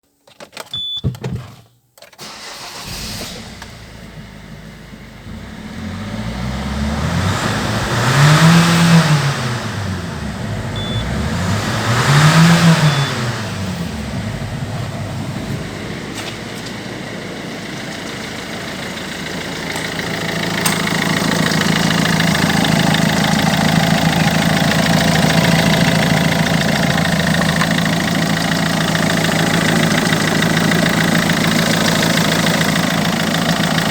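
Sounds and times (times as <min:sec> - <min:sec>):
diesel engine starting and revving: 0:02.2 - 0:33.9.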